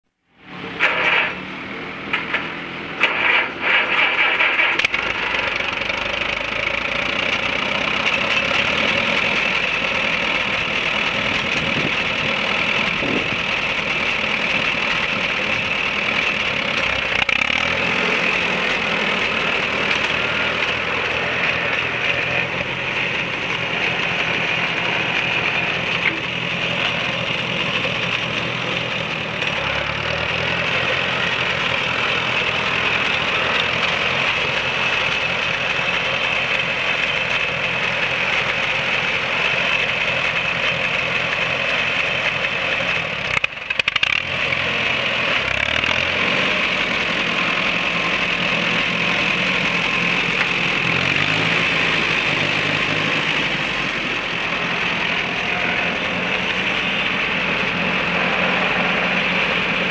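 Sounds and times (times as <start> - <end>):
tractor engine running: 0.2 - 59.9.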